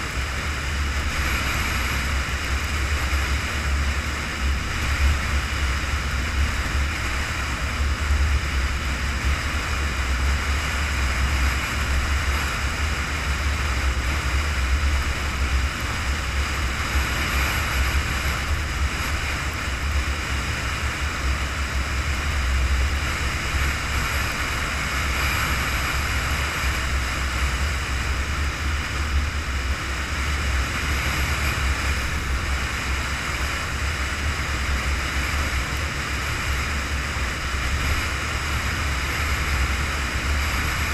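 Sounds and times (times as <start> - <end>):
engine and tyres rumbling: 0.0 - 40.9
wind rushing on microphone: 0.0 - 40.9.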